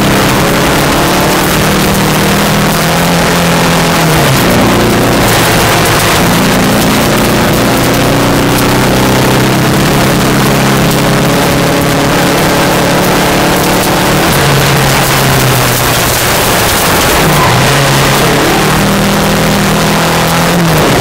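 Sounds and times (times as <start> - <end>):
car engine at speed: 0.0 - 21.0.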